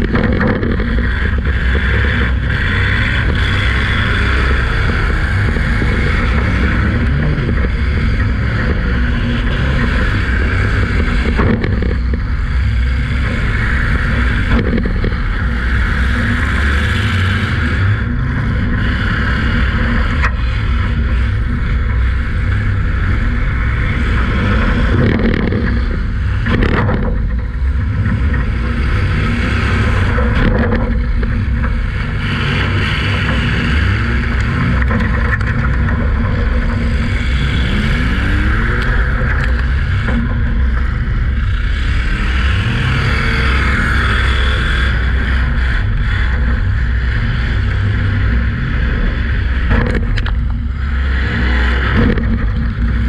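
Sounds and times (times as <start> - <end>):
car engine running loud: 0.0 - 53.0.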